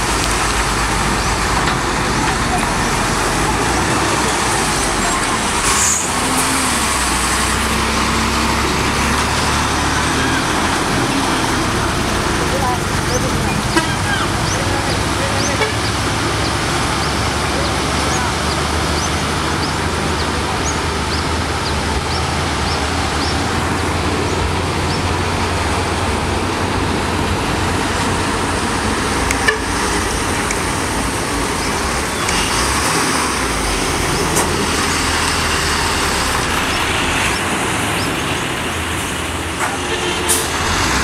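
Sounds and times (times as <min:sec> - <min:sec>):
diesel trucks passing: 0:00.0 - 0:41.0.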